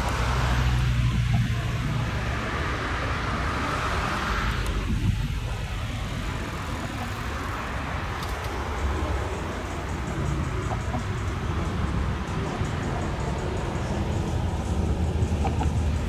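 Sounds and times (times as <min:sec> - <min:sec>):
vehicle engine and traffic hum: 0:00.0 - 0:16.0.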